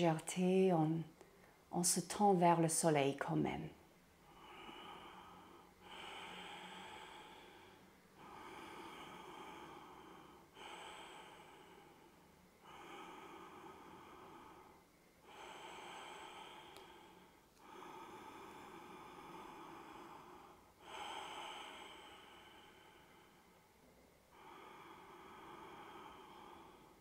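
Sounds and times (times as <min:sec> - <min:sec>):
woman breathing slowly: 0:01.2 - 0:01.7, 0:04.1 - 0:27.0.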